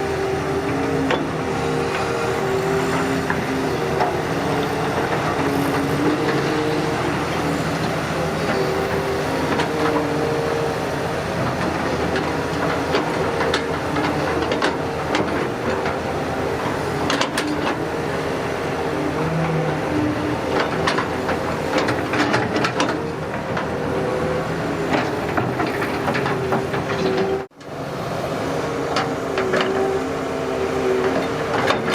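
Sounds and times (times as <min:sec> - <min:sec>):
diesel engine under load: 0:00.0 - 0:31.9.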